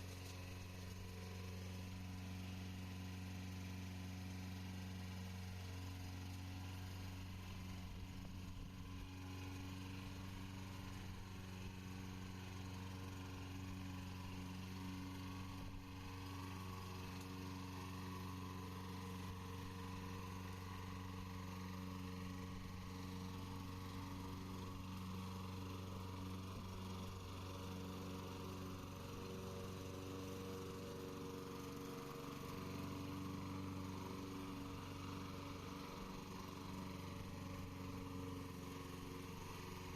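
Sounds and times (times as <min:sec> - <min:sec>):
lawn mower engine humming: 0:00.0 - 0:39.9.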